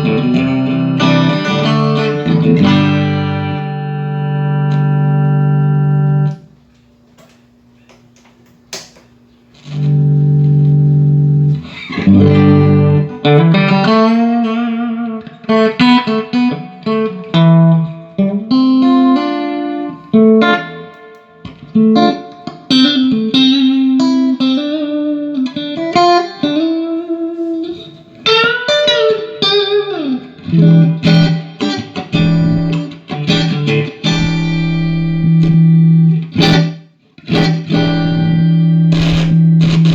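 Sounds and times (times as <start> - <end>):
electric guitar chords and bends: 0.0 - 6.5, 9.6 - 39.9.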